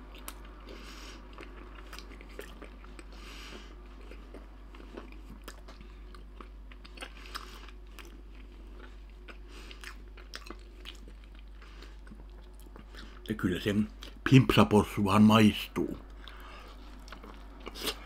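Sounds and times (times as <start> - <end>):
man chewing: 0.0 - 14.2, 16.0 - 18.0.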